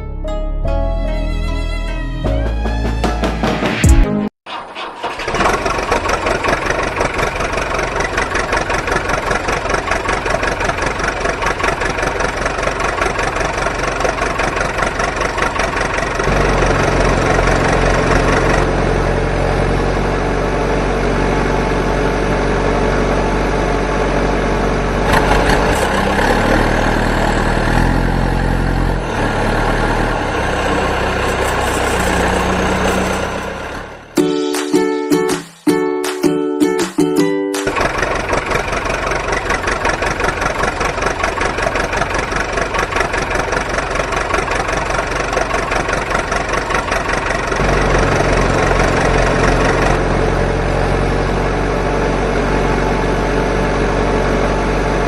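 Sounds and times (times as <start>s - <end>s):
tractor engine chugging: 4.5s - 34.7s, 37.5s - 55.0s.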